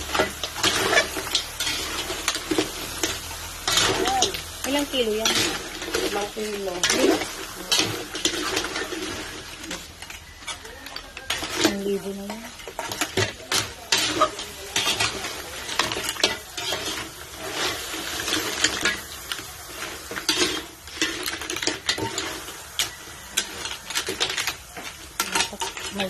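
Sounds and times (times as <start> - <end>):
ladle stirring clams in wok: 0.0 - 26.0.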